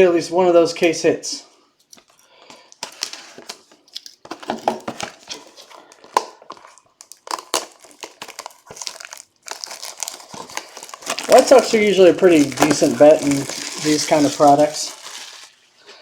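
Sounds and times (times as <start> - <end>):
plastic wrapping crinkling and tearing: 2.7 - 15.9.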